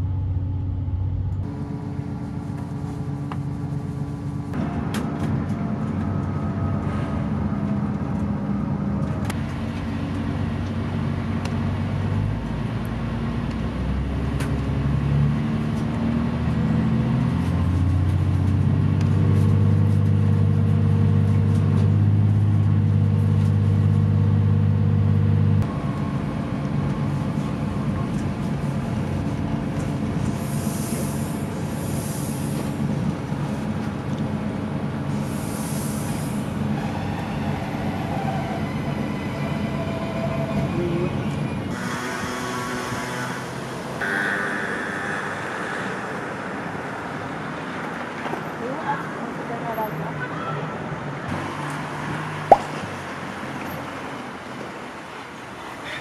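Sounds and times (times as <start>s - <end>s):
train engine drone: 0.0s - 49.4s.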